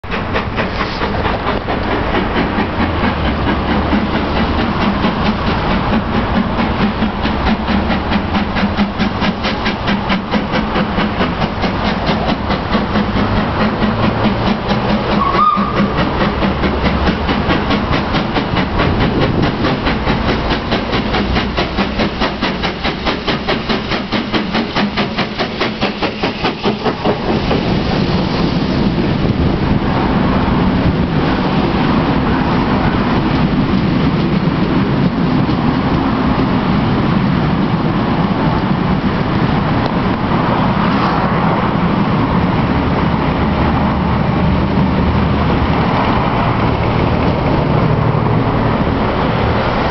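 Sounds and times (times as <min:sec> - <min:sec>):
steam locomotive exhaust chuffs: 0:00.0 - 0:49.9
train coaches rumbling on track: 0:00.0 - 0:49.9.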